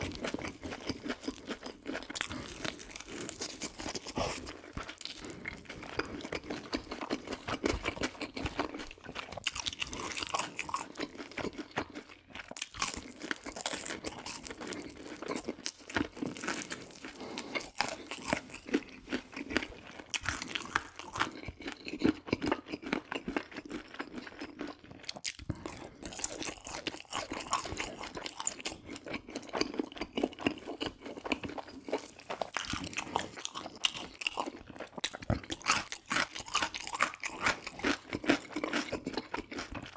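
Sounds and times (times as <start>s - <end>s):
crunching and chewing fried chicken: 0.0s - 39.9s.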